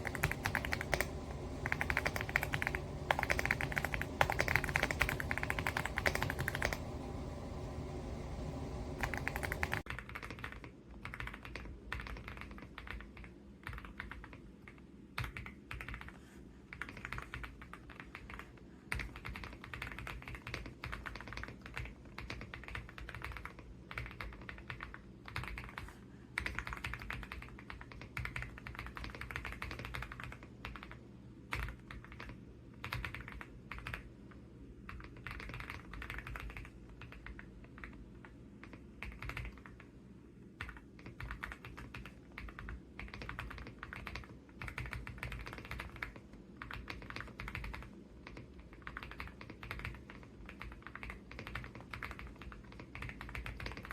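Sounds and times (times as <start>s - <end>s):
mechanical keyboard typing: 0.0s - 34.1s, 34.8s - 40.0s, 40.6s - 53.9s.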